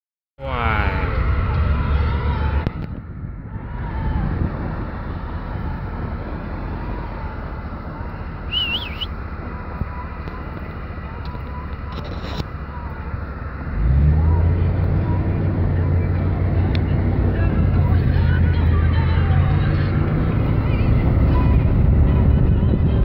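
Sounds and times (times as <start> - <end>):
car engine and tyre noise: 0.4 - 23.0.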